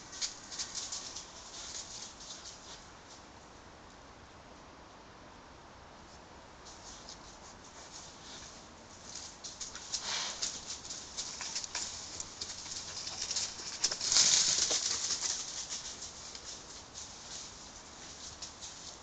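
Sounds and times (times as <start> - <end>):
leaves and twigs rustling and crackling: 0.0 - 3.5, 6.6 - 19.0.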